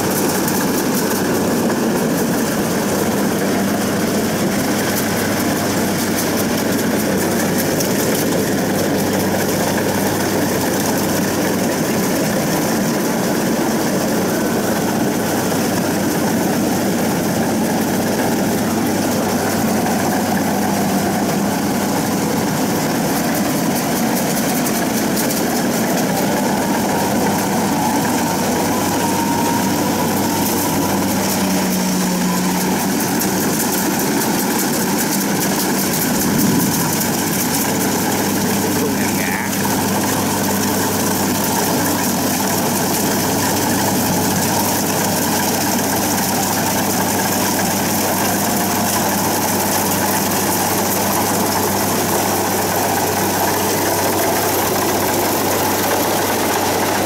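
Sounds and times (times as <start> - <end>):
diesel engine humming: 0.0 - 57.0
machinery noise: 0.0 - 57.0.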